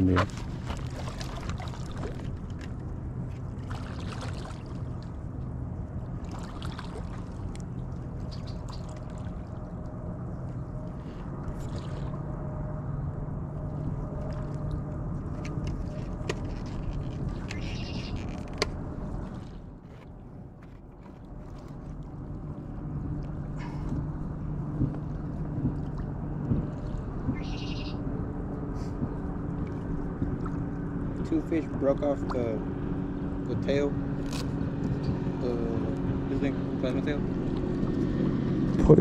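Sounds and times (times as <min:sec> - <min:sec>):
boat motor running: 0:00.0 - 0:39.0.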